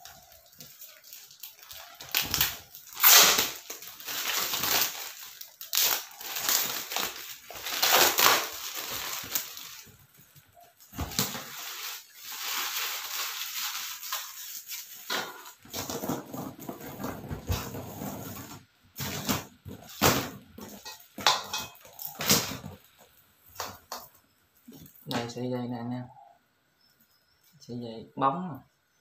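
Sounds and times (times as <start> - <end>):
plastic-coated wire crinkling: 0.0 - 25.2.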